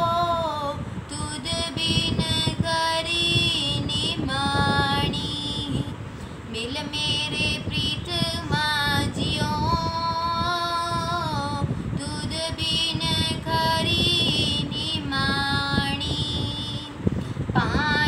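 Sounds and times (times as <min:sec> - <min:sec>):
girl singing a hymn: 0:00.0 - 0:18.0.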